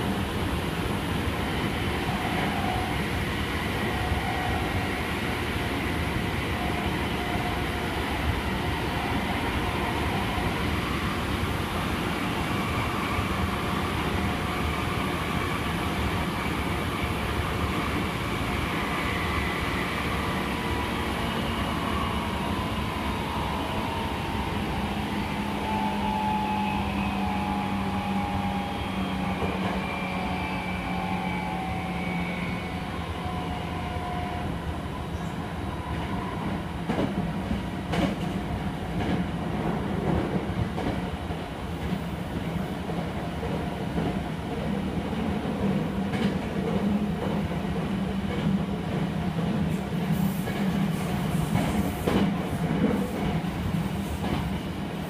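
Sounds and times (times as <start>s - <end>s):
train wheel and rail noise: 0.0s - 55.0s.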